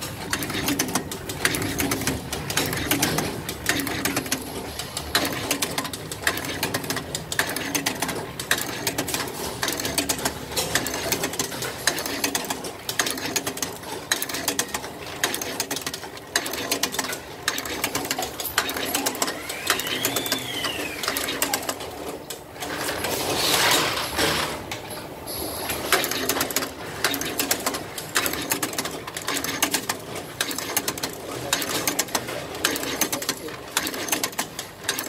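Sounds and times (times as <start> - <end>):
machine whirring: 0.0 - 35.0.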